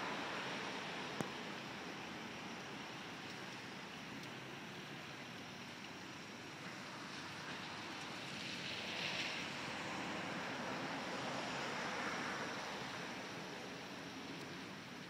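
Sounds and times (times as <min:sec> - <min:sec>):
steady background noise: 0:00.0 - 0:15.0
tyres hissing on wet road: 0:00.0 - 0:15.0.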